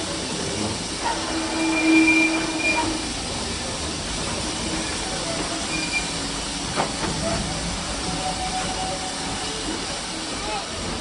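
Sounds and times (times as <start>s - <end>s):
train rumbling and rattling: 0.0s - 11.0s.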